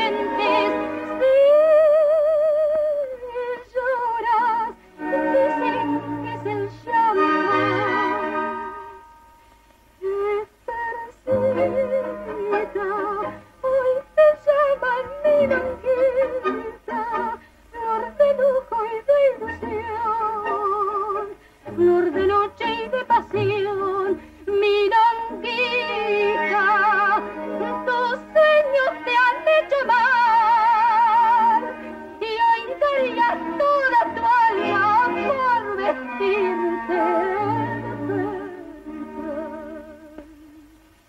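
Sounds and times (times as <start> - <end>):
woman singing with vibrato: 0.0 - 9.1, 10.0 - 41.0
instrumental accompaniment: 3.0 - 41.0.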